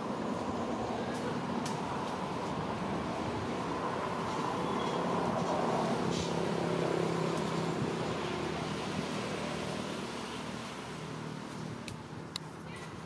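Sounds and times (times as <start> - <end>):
vehicle engine passing: 0.0 - 11.8.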